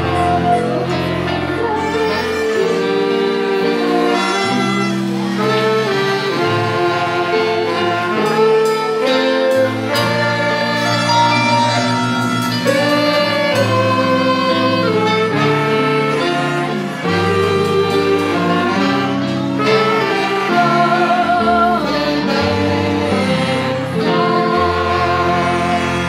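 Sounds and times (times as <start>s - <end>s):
live band playing dance music: 0.0s - 21.4s
wavering held melody notes: 0.0s - 26.0s.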